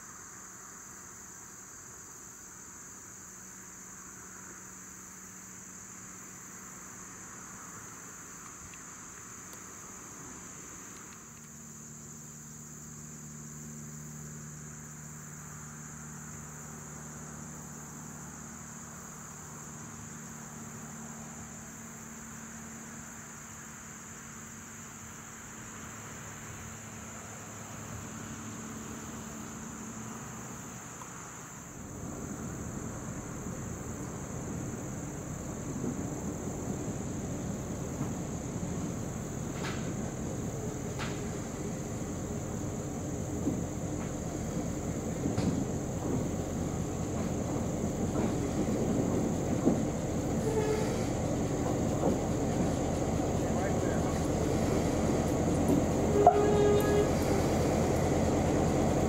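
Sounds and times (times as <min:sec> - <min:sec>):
crickets trilling: 0:00.0 - 0:59.0
distant locomotive engine hum: 0:00.0 - 0:59.0.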